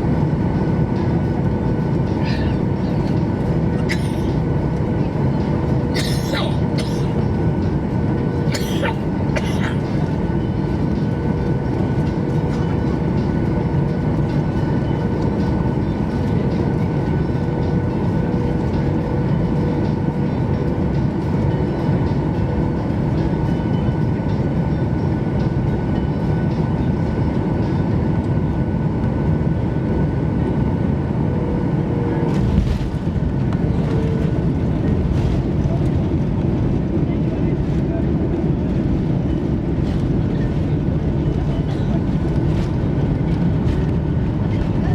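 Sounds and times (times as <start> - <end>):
aircraft cabin engine rumble: 0.0 - 44.9.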